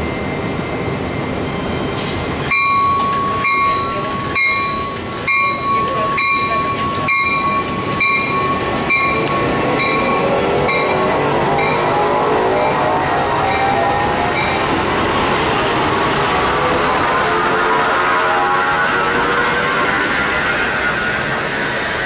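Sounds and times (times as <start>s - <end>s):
high whine: 0.0s - 22.0s
train rumbling past: 0.0s - 22.0s.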